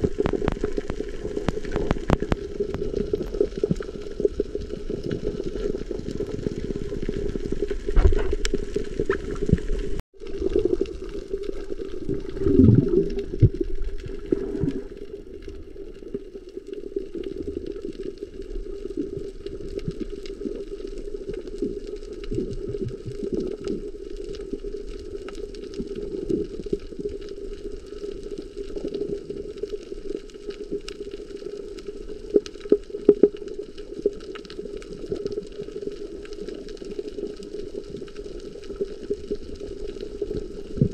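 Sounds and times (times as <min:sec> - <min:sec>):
muffled underwater hum and rush: 0:00.0 - 0:40.9
water bubbling and gurgling: 0:00.0 - 0:40.9.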